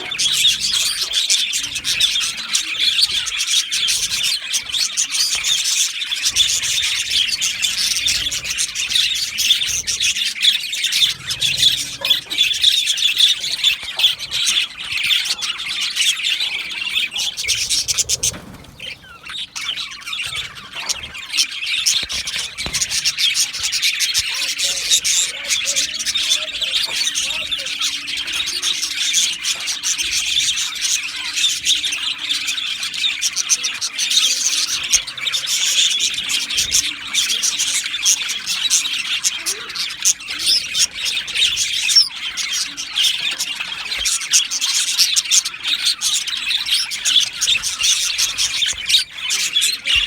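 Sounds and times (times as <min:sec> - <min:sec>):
budgerigars chattering: 0:00.0 - 0:50.0.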